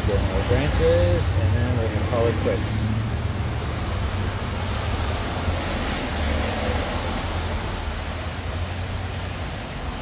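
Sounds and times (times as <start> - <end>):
traffic on wet street: 0.0 - 10.0.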